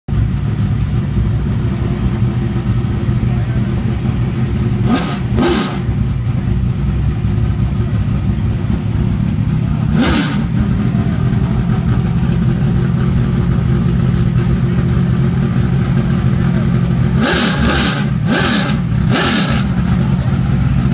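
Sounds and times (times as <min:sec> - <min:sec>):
race car engine idling: 0:00.1 - 0:20.9
engine revving: 0:01.5 - 0:06.5, 0:08.0 - 0:20.9.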